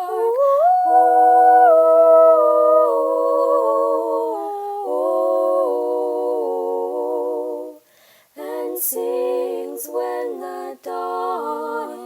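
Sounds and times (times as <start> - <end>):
a cappella voices in harmony: 0.0 - 12.0.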